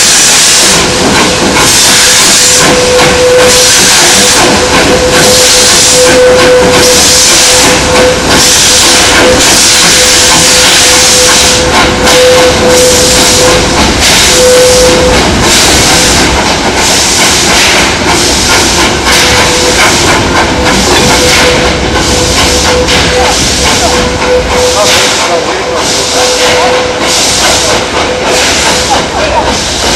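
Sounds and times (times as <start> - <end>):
steam locomotive exhaust beats: 0.0 - 29.9.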